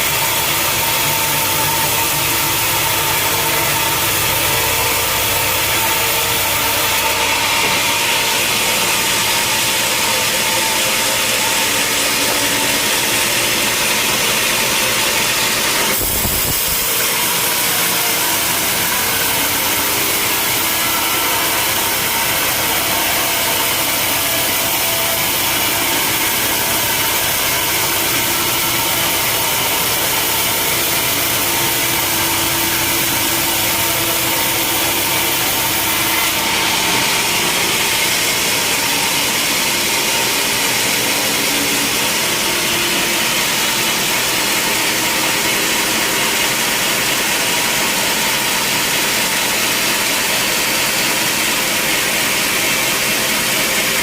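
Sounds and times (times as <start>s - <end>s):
sawmill machinery drone: 0.0s - 54.0s.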